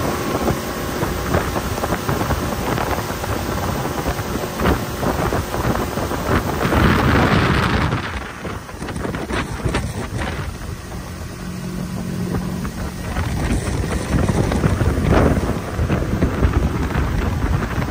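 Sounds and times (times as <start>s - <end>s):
outboard motor running: 0.0s - 17.9s
wind buffeting microphone: 0.0s - 17.9s.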